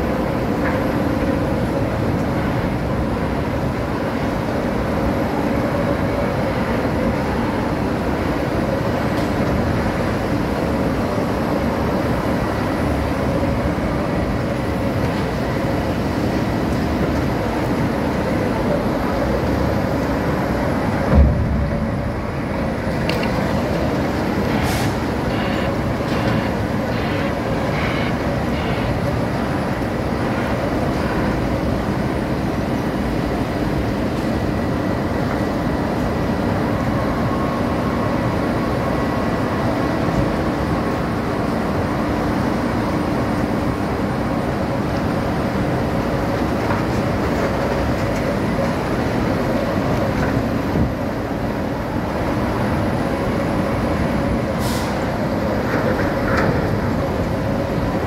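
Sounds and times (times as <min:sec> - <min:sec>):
wheel loader engine: 0:00.0 - 0:58.0.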